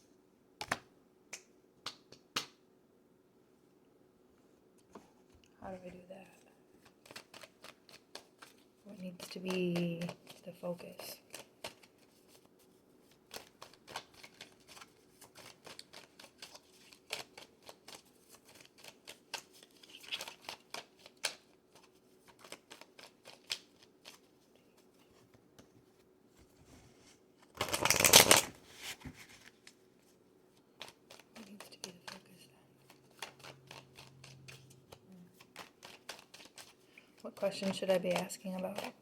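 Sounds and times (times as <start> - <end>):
cards being shuffled: 6.7 - 39.0.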